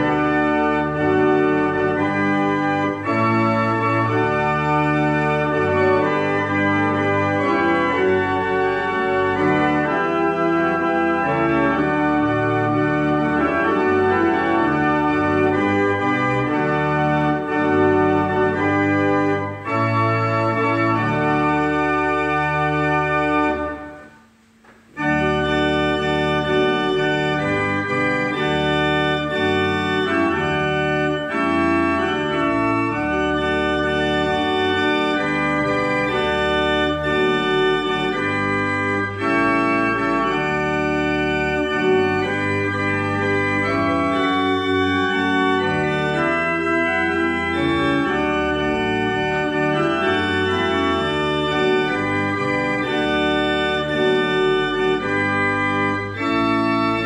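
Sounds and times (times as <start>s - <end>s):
organ playing a hymn: 0.0s - 57.0s.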